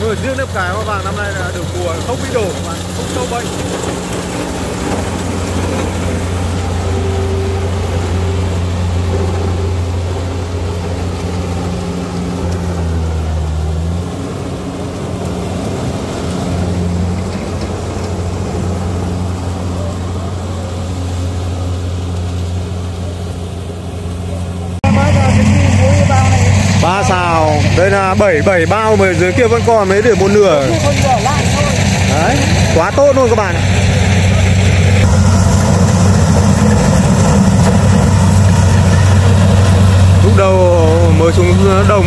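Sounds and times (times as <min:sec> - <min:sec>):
combine harvester diesel engine: 0:00.0 - 0:42.0.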